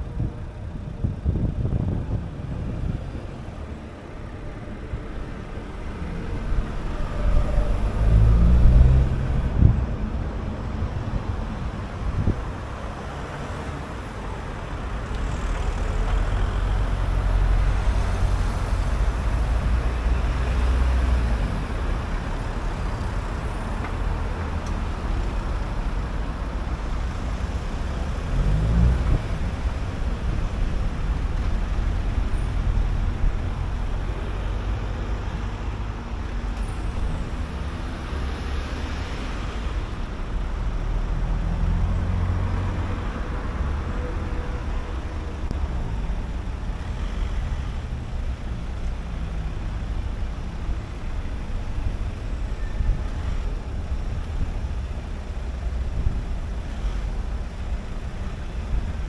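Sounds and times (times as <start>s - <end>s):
car engine rumble: 0.0s - 59.0s
car road noise: 0.0s - 59.0s.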